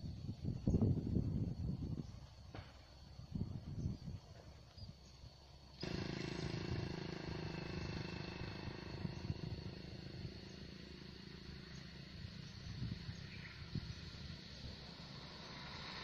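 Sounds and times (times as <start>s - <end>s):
low engine-like hum: 0.0s - 16.0s
wind rumbling on microphone: 0.0s - 16.0s.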